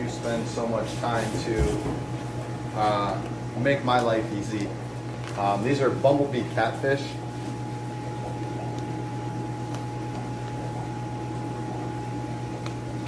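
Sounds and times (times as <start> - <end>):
air pumps and filters humming: 0.0 - 13.0.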